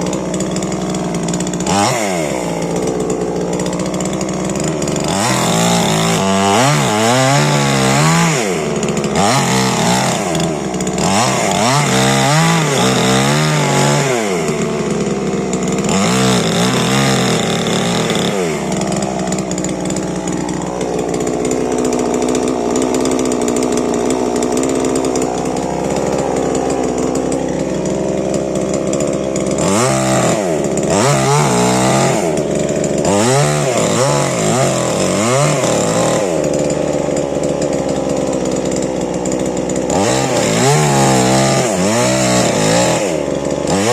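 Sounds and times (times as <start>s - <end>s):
two-stroke chainsaw revving: 0.0s - 43.9s.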